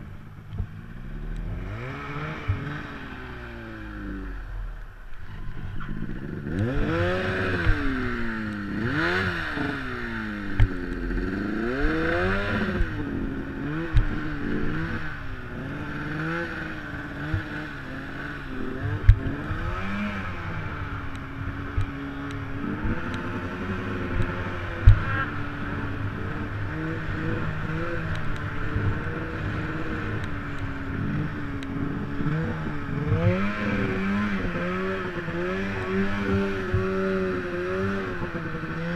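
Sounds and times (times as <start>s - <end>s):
snowmobile engine revving: 0.8s - 38.9s.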